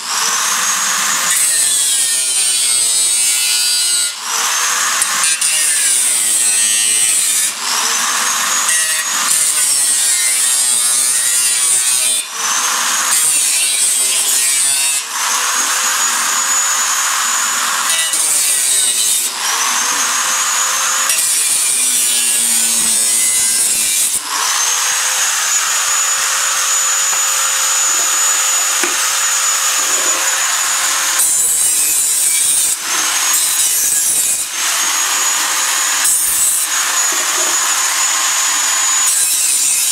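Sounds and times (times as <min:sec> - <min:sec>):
grinder motor whine: 0:00.0 - 0:03.2, 0:04.1 - 0:39.9
grinder cutting steel: 0:00.0 - 0:39.9.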